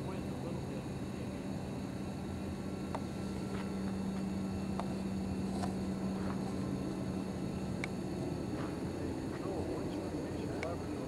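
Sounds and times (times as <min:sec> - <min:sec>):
model airplane propeller drone: 0:00.0 - 0:11.0.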